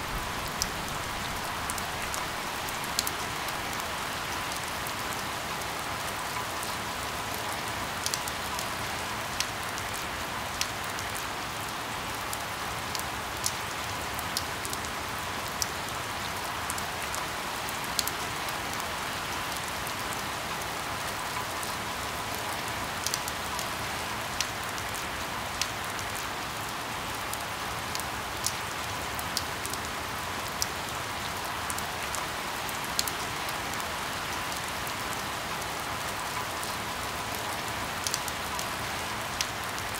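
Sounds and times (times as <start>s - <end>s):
steady rain falling: 0.0s - 39.9s
close raindrops ticking: 0.1s - 39.9s.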